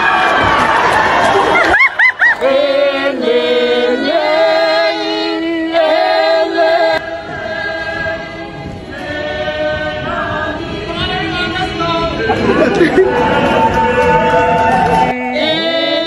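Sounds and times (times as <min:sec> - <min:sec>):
group of voices singing in harmony: 0:02.2 - 0:16.0.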